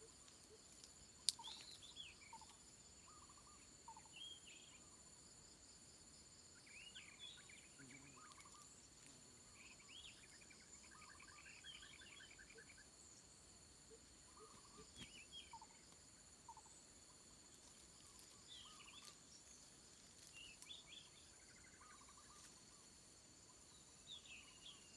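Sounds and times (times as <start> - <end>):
bird calls and chirps: 0.0 - 5.2, 6.4 - 24.9
high insect drone: 0.0 - 24.9.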